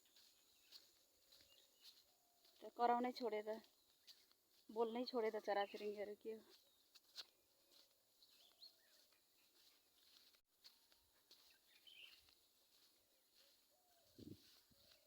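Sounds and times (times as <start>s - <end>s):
distant bird chirps: 0.0s - 10.2s, 11.2s - 15.0s.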